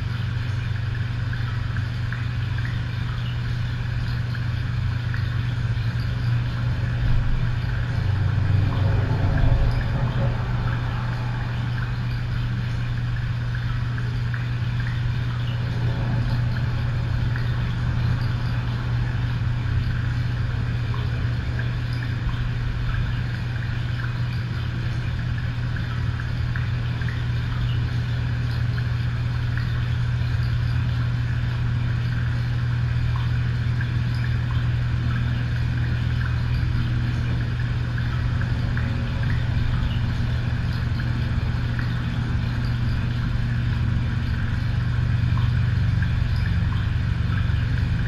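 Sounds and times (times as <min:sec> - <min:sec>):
steady low hum with hiss: 0:00.0 - 0:48.0.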